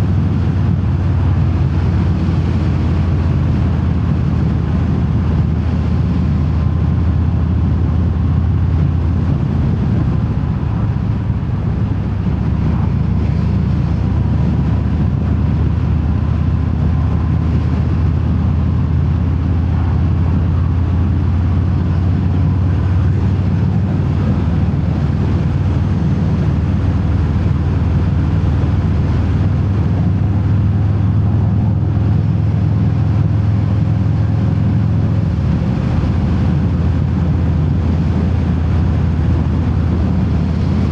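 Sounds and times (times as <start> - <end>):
motorcycle exhaust rumble: 0.0 - 40.9
wind noise: 0.0 - 40.9.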